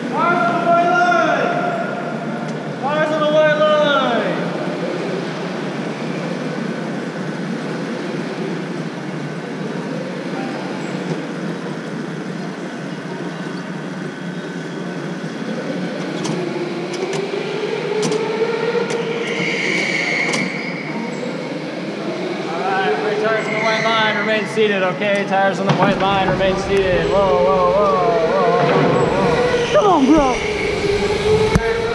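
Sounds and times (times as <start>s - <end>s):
go-kart rolling: 4.4s - 31.9s.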